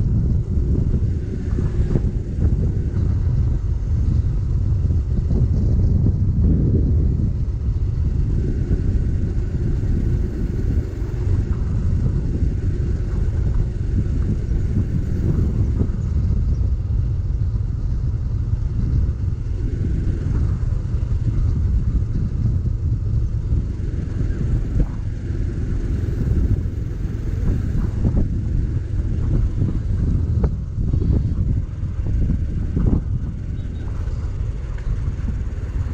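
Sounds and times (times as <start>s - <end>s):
motorcycle engine rumble: 0.0s - 35.9s
wind and road noise: 0.0s - 35.9s.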